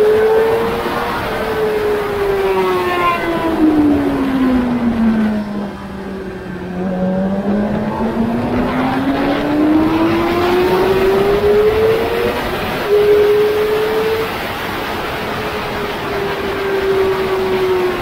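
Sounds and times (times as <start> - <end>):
motorcycle engine revving: 0.0 - 18.0
wind rush: 0.0 - 18.0.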